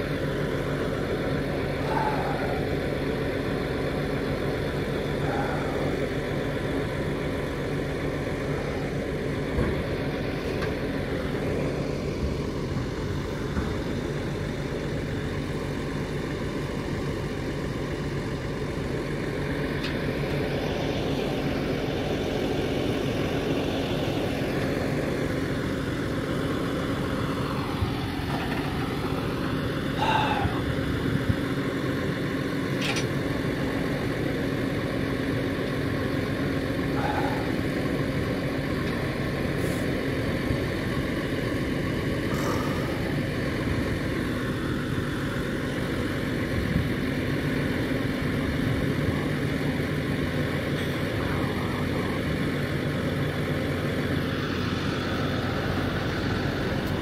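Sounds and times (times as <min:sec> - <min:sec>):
hydraulic whine: 0:00.0 - 0:57.0
truck engine idling: 0:00.0 - 0:57.0.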